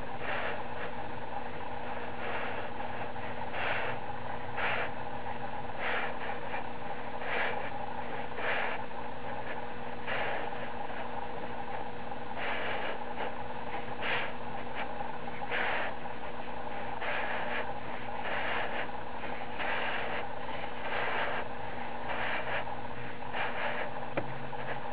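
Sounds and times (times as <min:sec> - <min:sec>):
dial rubbing and scraping: 0:00.0 - 0:24.9
steady background hum: 0:00.0 - 0:24.9.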